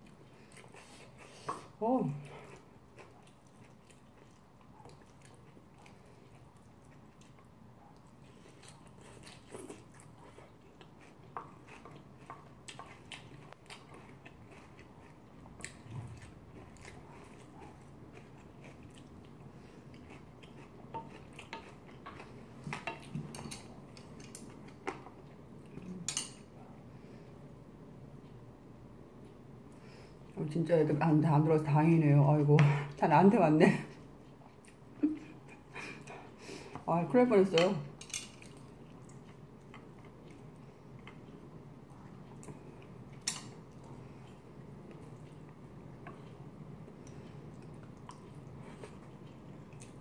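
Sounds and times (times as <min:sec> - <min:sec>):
quiet chewing: 0:00.0 - 0:27.3, 0:33.9 - 0:36.9, 0:37.9 - 0:50.0.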